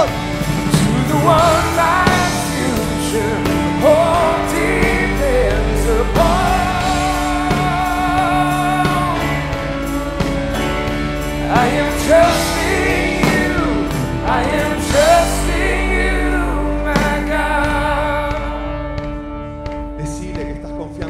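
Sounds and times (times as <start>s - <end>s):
person singing: 0.0s - 19.2s
drum kit: 0.0s - 21.0s
worship band playing: 0.0s - 21.0s.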